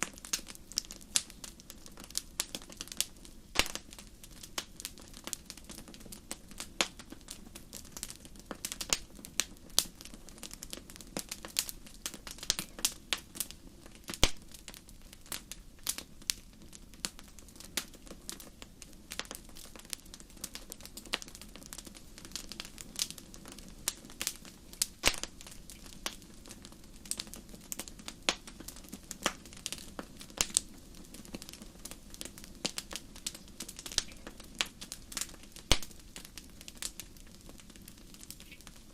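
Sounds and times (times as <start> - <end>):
low steady fire hiss: 0.0 - 38.9
wood fire crackling and popping: 0.0 - 38.9.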